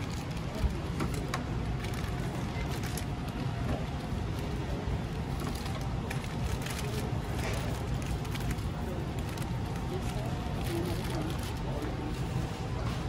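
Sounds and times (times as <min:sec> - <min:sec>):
store background hum: 0:00.0 - 0:13.0.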